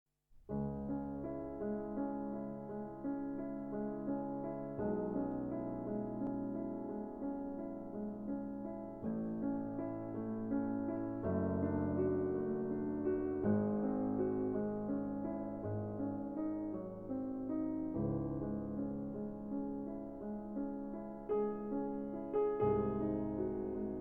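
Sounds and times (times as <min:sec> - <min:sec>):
soft electric piano chords: 0:00.4 - 0:24.0.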